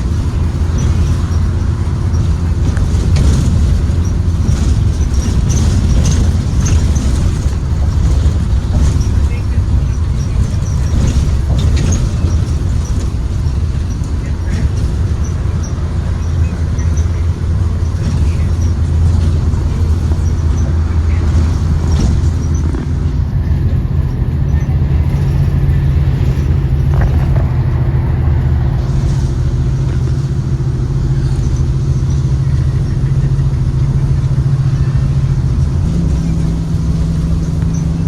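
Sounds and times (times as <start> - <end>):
bus engine drone: 0.0 - 38.0
road noise: 0.0 - 38.0.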